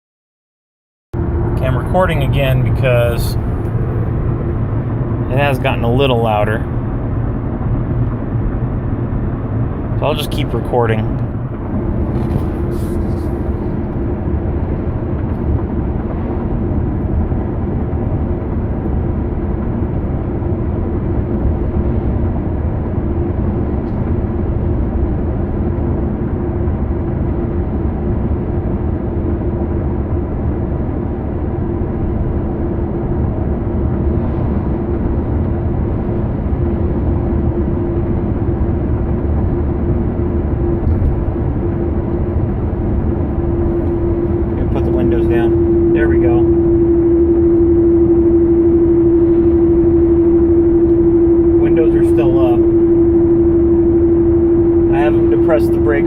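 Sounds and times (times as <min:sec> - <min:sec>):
wheel bearing hum: 0:01.2 - 0:27.8, 0:31.5 - 0:56.0
road and tyre noise: 0:01.2 - 0:56.0.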